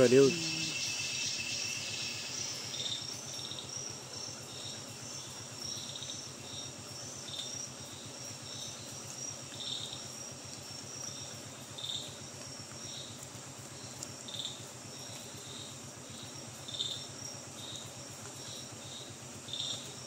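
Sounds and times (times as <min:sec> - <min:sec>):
insects trilling and chirping: 0:00.0 - 0:20.0
low steady hum: 0:00.0 - 0:20.0.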